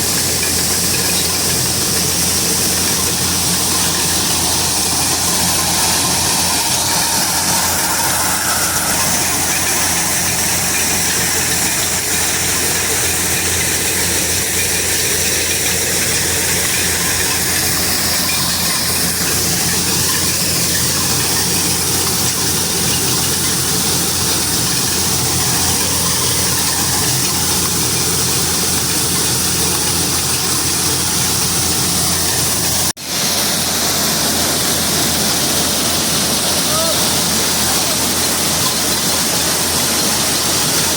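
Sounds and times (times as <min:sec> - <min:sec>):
dense mechanical clatter: 0:00.0 - 0:40.9
harvester engine running: 0:00.0 - 0:40.9.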